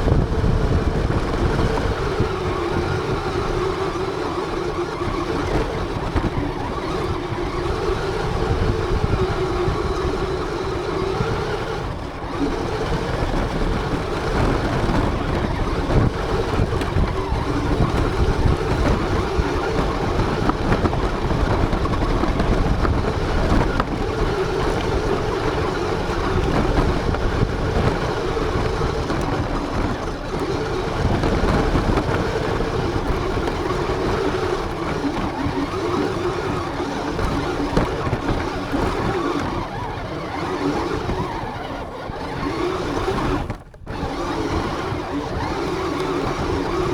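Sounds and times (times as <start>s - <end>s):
rc car motor whine: 0.0s - 46.9s
wheels and chassis rumble: 0.0s - 46.9s.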